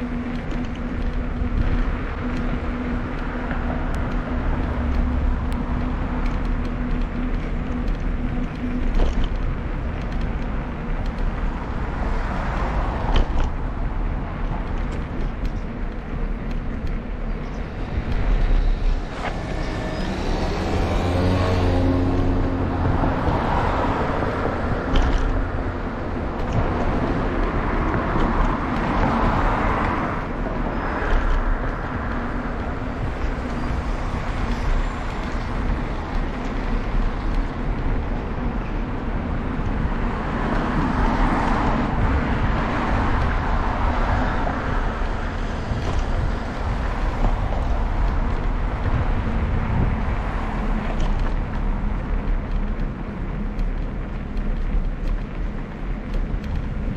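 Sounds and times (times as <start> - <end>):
bicycle road noise rumble: 0.0 - 56.9
motor vehicles passing: 0.0 - 56.9.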